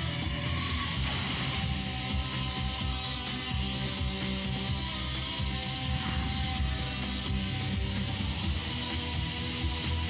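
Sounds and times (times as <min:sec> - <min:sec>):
rock music with strummed guitar: 0:00.0 - 0:10.0.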